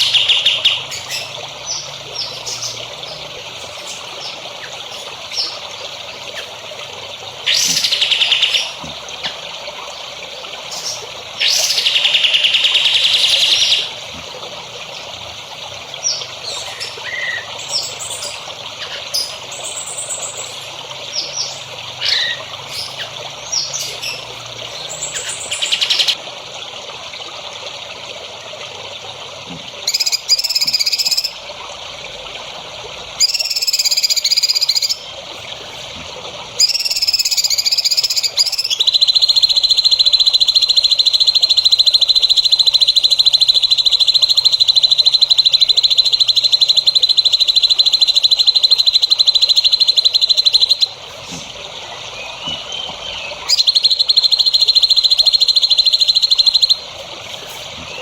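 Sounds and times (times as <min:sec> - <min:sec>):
buzzing bird trills: 0:00.0 - 0:26.2, 0:29.8 - 0:31.5, 0:33.1 - 0:58.0
songbirds chirping: 0:00.0 - 0:26.2, 0:29.8 - 0:58.0
water trickling: 0:00.0 - 0:58.0.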